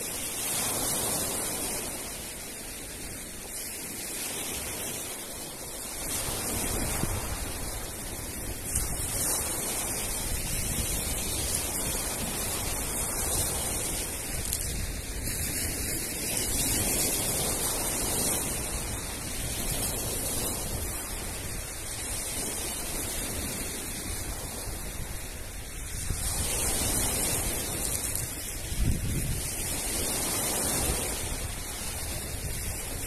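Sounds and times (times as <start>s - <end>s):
surf on pebble beach: 0.0s - 33.0s.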